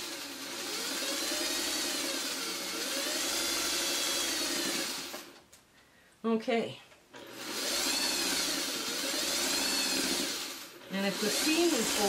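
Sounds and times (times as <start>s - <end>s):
sewing machine motor whirring: 0.0s - 5.4s, 7.2s - 12.0s.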